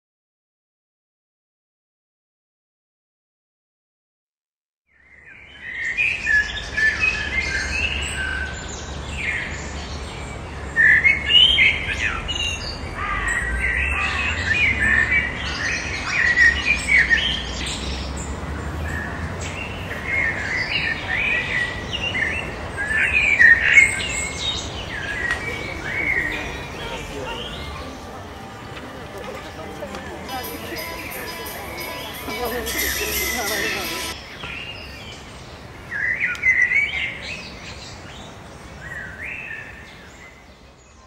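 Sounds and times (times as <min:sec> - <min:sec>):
songbirds chirping and singing: 0:04.9 - 0:41.0.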